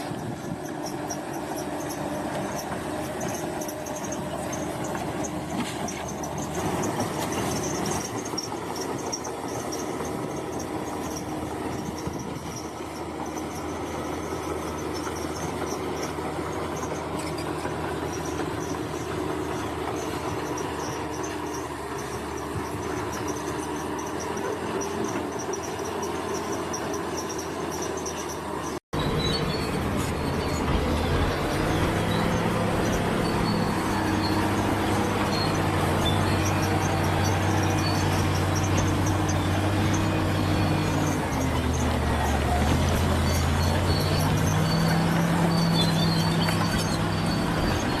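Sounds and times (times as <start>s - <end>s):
bulldozer diesel engine: 0.0s - 48.0s
insects chirping: 0.4s - 48.0s.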